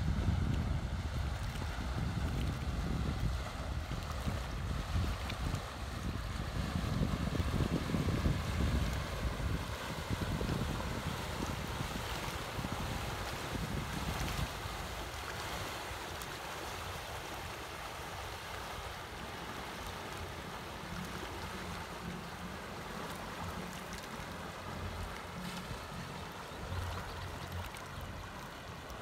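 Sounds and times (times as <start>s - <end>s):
small waves lapping: 0.0s - 29.0s
wind on microphone: 0.0s - 29.0s
boat engine drone: 3.1s - 29.0s.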